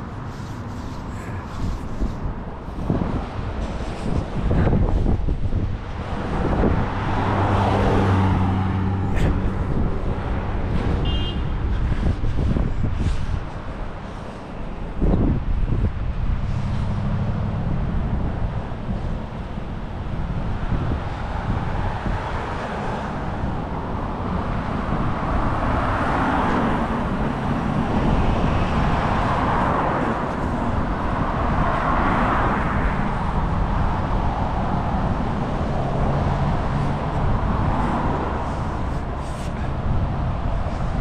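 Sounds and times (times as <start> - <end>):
cars passing with tyre noise: 0.0 - 41.0
low traffic rumble: 0.0 - 41.0.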